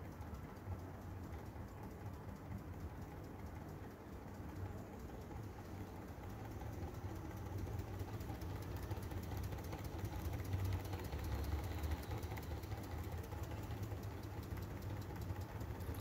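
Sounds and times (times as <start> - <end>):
hot-air engine clicking: 1.4 - 16.0.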